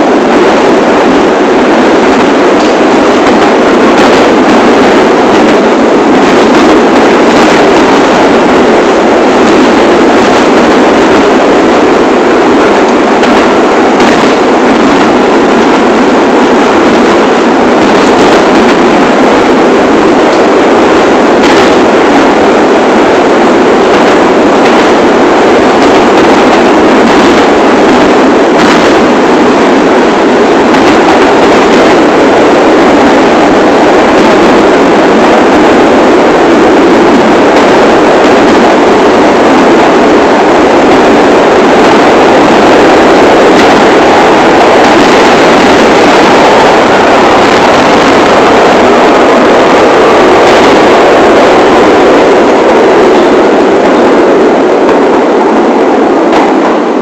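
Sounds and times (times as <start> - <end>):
subway train wheels rumbling on rails: 0.0 - 57.0.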